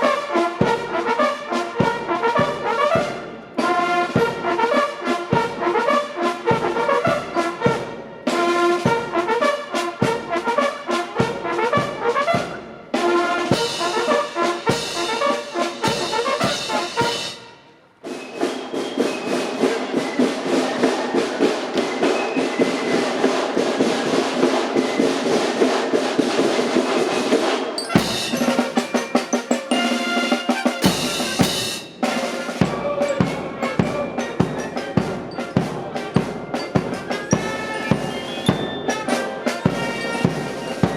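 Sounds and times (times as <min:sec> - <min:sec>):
marching band playing a march: 0:00.0 - 0:40.9.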